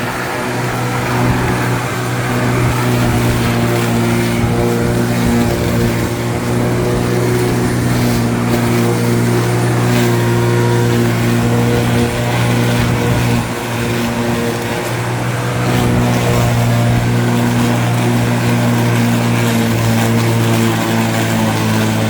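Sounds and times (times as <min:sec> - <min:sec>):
lawn mower running: 0:00.0 - 0:22.0.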